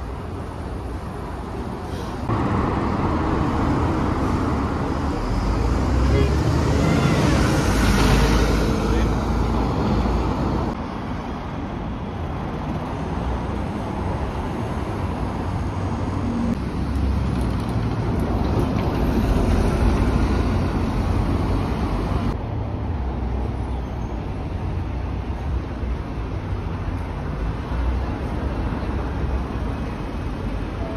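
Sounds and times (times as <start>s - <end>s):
bus engines passing: 0.0s - 30.9s
street traffic noise: 0.0s - 30.9s.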